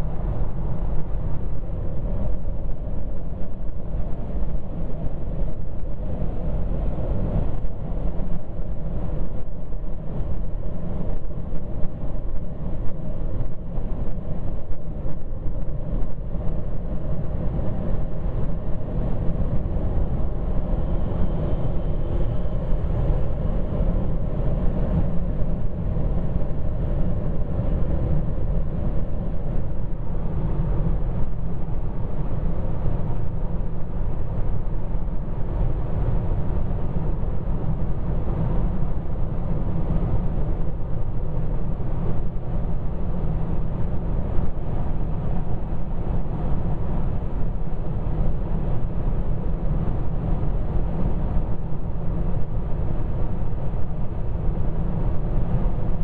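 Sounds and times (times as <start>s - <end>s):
wind noise: 0.0s - 56.0s.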